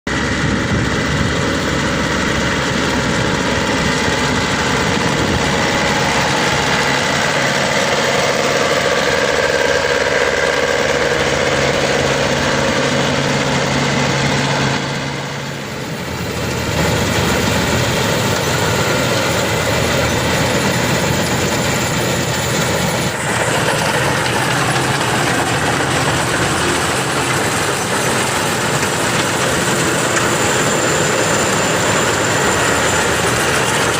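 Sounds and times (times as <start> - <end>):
combine harvester drone: 0.1 - 33.9.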